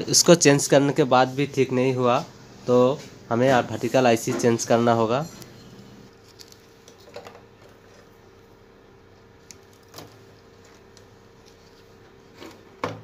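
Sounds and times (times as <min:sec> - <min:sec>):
steady faint hum: 0:00.0 - 0:13.0.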